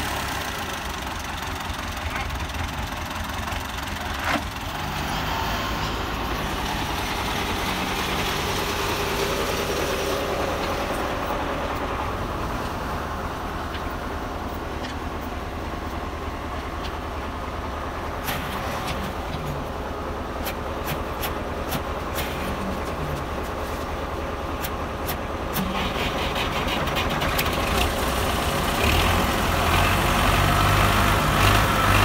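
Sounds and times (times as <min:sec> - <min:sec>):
diesel tractor engines running: 0:00.0 - 0:32.0.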